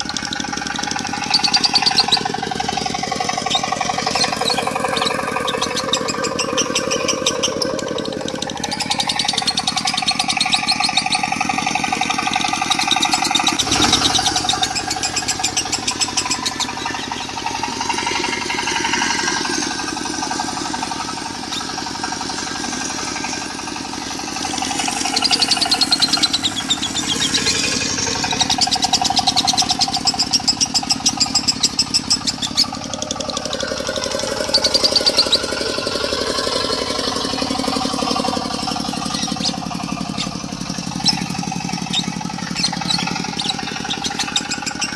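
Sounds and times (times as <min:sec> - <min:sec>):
diesel engine running: 0:00.0 - 0:44.9
lovebird rapid trills: 0:00.0 - 0:44.9.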